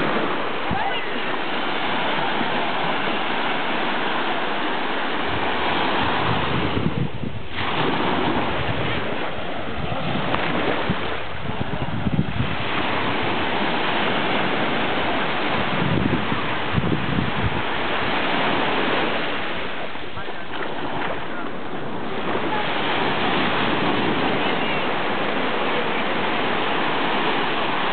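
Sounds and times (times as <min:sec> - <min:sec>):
small waves breaking on shore: 0:00.0 - 0:27.9
wind buffeting microphone: 0:00.0 - 0:27.9.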